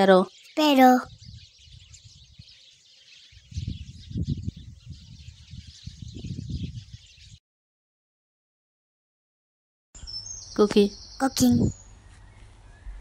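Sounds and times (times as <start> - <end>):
sparrows chirping: 0.0 - 7.4, 10.0 - 13.0.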